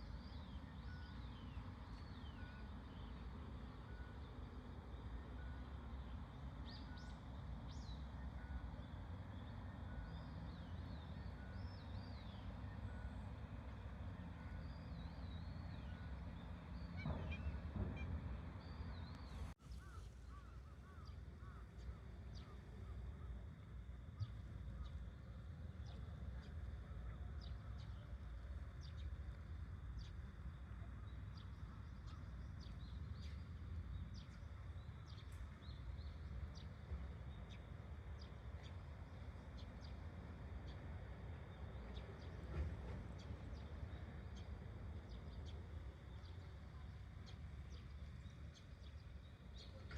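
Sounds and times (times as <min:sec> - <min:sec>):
low outdoor rumble: 0:00.0 - 0:49.9.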